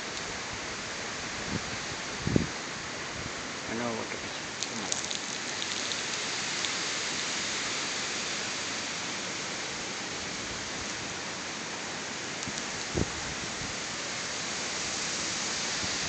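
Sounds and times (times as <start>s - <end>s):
wind rushing through foliage: 0.0s - 16.0s.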